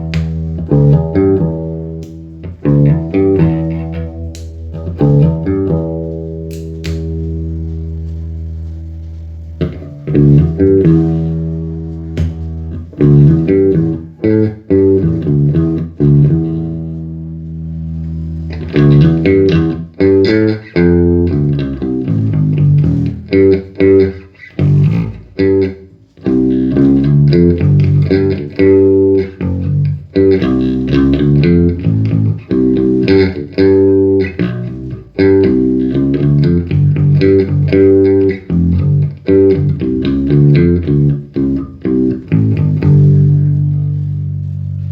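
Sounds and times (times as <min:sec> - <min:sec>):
electric bass plucked: 0:00.0 - 0:44.9.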